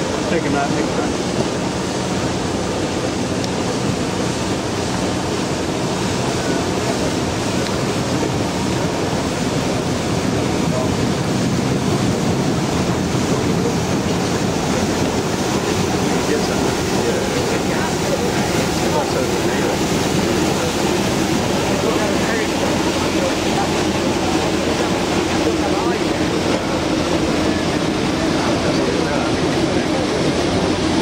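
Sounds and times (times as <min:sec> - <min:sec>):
crowd chatting: 0:00.0 - 0:31.0
wind on microphone: 0:00.0 - 0:31.0.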